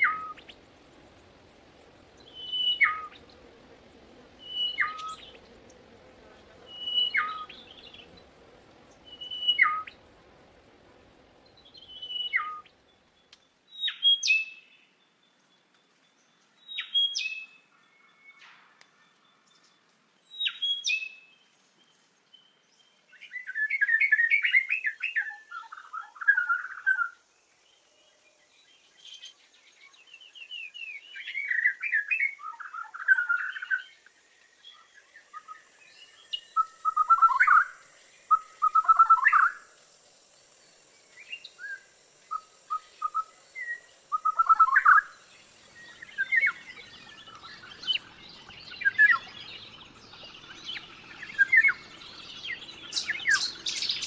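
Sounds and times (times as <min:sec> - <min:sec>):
songbird chirping and warbling: 0:00.0 - 0:54.0.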